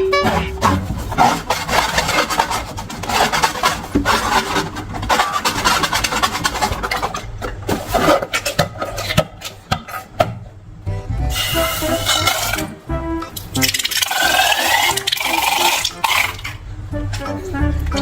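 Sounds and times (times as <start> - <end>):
balloons and slime rubbing: 0.1 - 10.1, 11.3 - 12.8, 13.4 - 16.6.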